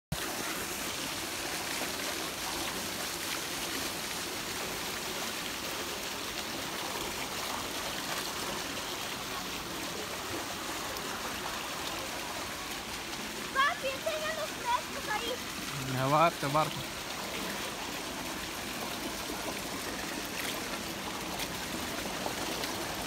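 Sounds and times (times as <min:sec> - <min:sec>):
pool water rushing and lapping: 0:00.1 - 0:23.0.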